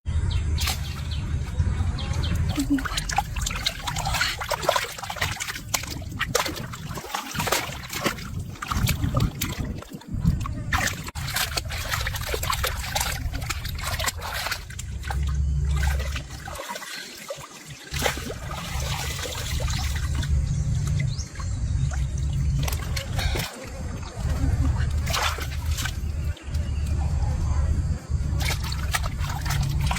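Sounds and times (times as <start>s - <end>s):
low rumble: 0.1s - 16.6s, 18.0s - 29.9s
water trickling and splashing: 0.6s - 29.9s.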